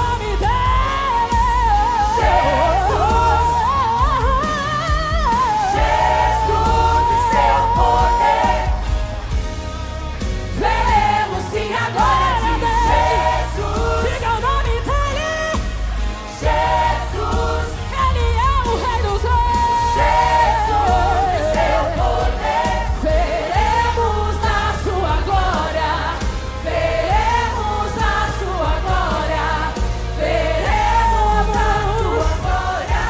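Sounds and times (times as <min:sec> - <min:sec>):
steady bass: 0:00.0 - 0:33.0
worship band playing: 0:00.0 - 0:33.0.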